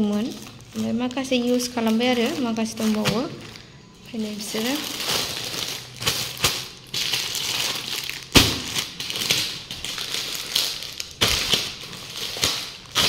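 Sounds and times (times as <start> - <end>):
plastic packs crinkling: 0.0 - 13.0.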